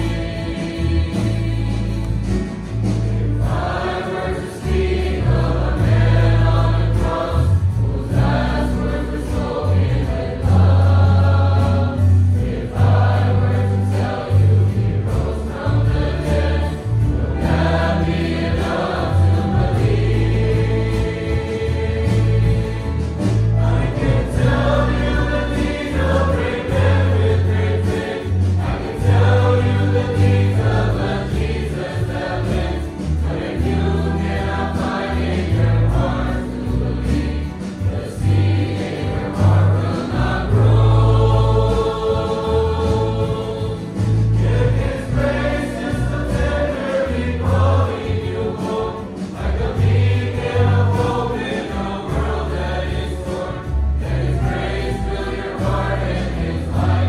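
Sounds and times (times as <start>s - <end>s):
choir singing a hymn: 0.0s - 57.0s
deep bass accompaniment: 0.0s - 57.0s.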